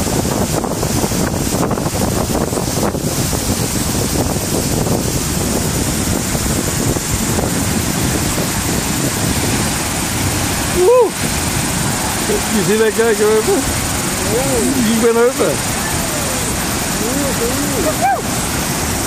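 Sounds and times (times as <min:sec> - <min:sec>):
whitewater rushing through rapids: 0:00.0 - 0:19.0.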